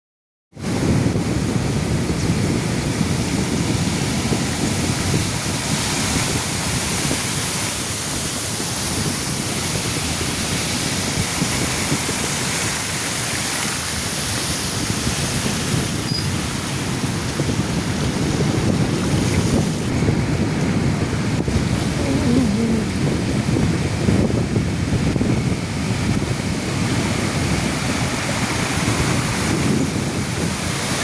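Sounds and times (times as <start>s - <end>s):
wind buffeting microphone: 0.6s - 31.0s
running water rushing: 3.4s - 24.3s, 26.9s - 31.0s.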